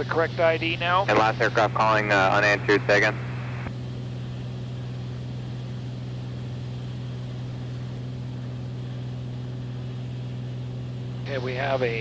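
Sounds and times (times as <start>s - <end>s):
propeller plane engine drone: 0.0s - 12.0s.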